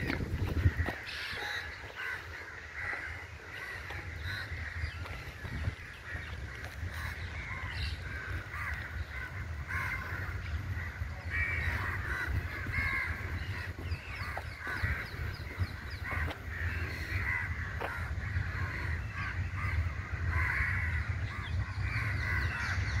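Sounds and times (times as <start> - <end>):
crows cawing: 0.0 - 23.0
steady low rumble: 0.0 - 23.0.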